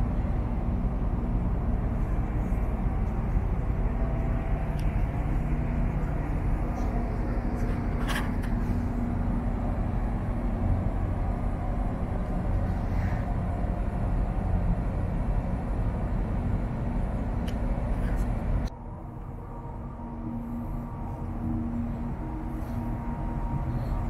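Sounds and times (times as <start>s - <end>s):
ferry machinery hum: 0.0s - 24.0s.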